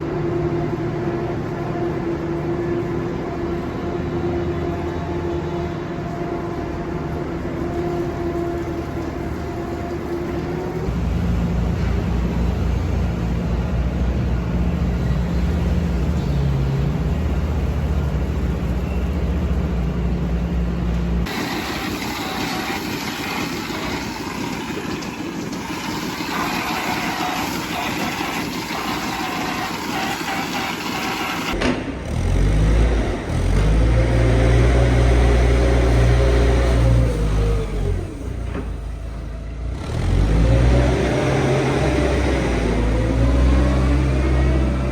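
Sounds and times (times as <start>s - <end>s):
farm machinery engine running: 0.0s - 44.9s.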